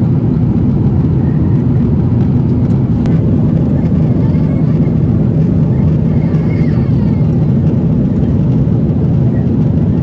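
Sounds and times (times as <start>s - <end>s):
airliner cabin engine roar: 0.0s - 10.0s.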